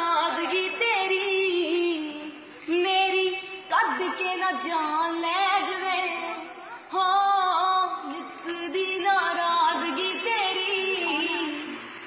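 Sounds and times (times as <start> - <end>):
woman singing unaccompanied: 0.0 - 11.9.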